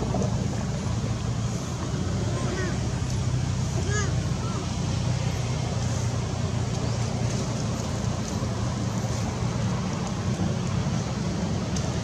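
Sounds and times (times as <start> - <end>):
outdoor background rumble and hiss: 0.0 - 12.0.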